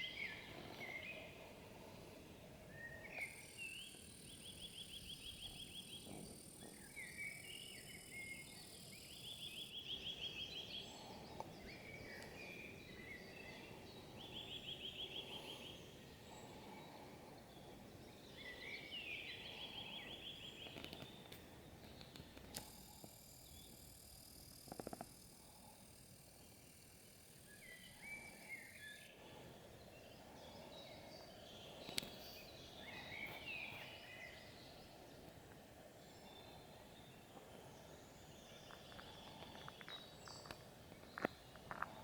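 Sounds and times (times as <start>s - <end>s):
songbirds singing: 0.0s - 42.0s.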